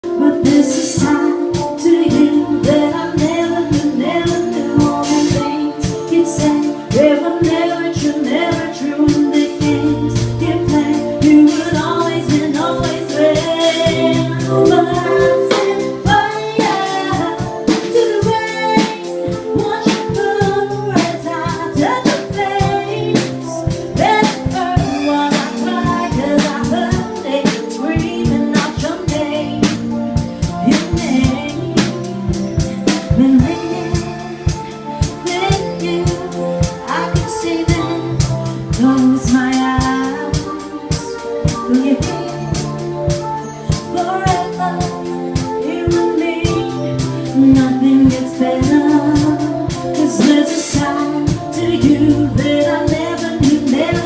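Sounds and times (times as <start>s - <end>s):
instrumental backing with drums: 0.0s - 54.0s
woman singing pop song: 0.0s - 54.0s.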